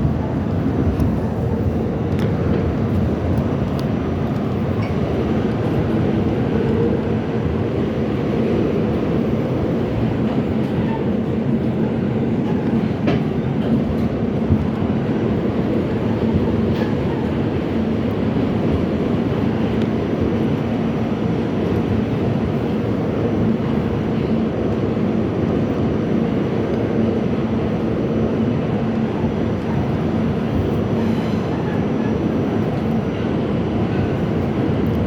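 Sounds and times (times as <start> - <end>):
subway car rolling on track: 0.0 - 35.0.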